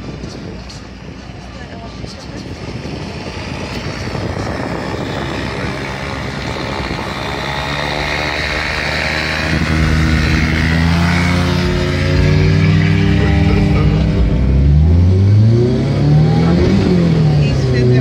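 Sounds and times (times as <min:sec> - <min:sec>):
propeller aircraft engine running: 0:00.0 - 0:16.0.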